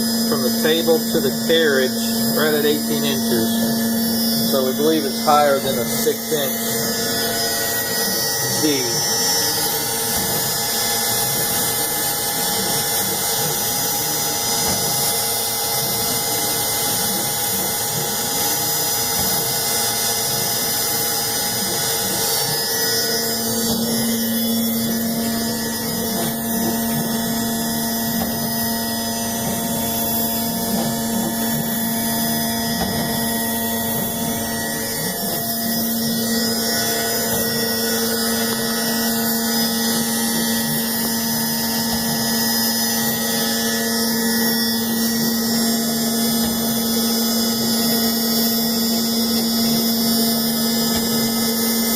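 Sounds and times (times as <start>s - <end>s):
spindle whine: 0.0s - 51.9s
steady low hum: 0.0s - 51.9s.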